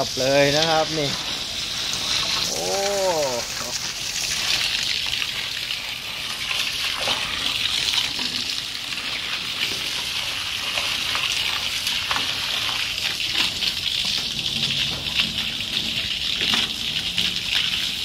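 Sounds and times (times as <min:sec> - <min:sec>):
hose water spraying on sand: 0:00.0 - 0:18.0.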